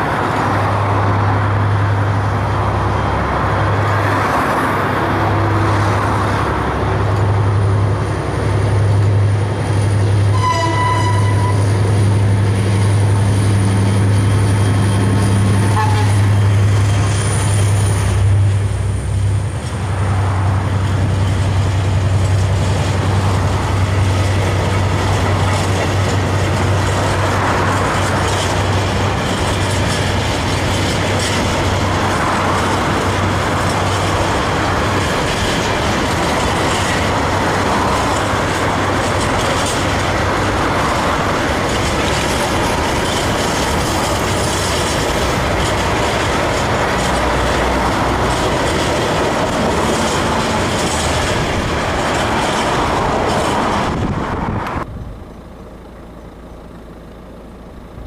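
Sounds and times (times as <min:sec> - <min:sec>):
train wheels clattering on rails: 0:00.0 - 0:54.9
freight train rumbling past: 0:00.0 - 0:56.9.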